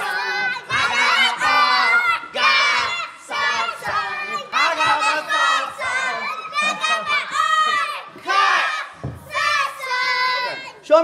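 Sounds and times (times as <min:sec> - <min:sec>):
children shouting and cheering: 0:00.0 - 0:10.8.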